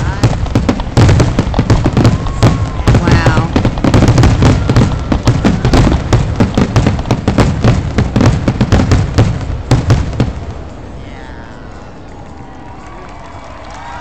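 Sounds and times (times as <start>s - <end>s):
fireworks bangs and crackle: 0.0s - 14.0s.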